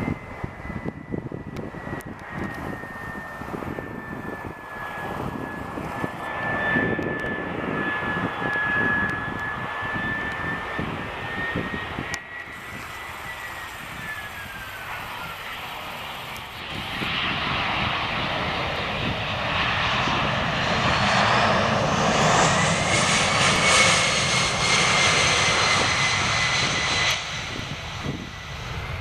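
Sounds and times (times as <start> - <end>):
jet engine whine: 0.0 - 29.0
rumbling jet noise: 0.0 - 29.0.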